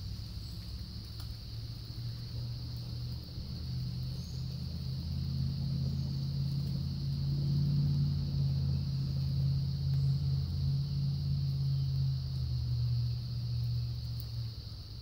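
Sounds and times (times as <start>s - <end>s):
constant high hiss: 0.0s - 15.0s
low motor hum: 0.0s - 15.0s.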